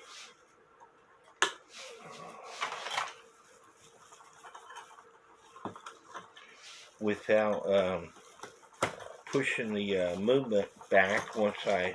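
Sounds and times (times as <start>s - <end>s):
scraping and rustling: 1.7s - 11.9s.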